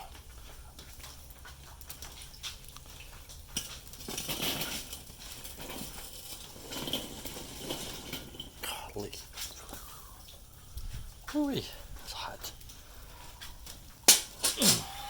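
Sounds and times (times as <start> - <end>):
coals rustling: 0.0 - 15.0
grill grate clicking and scraping: 0.0 - 15.0.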